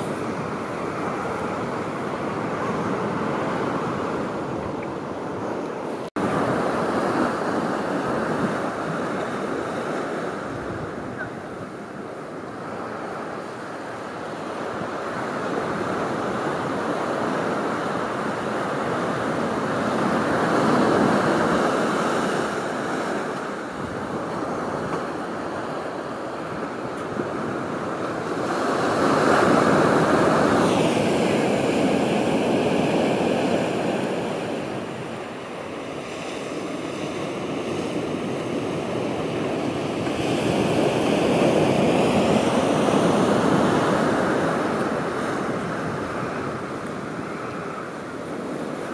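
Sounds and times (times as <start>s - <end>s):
surf washing up a beach: 0.0s - 48.9s.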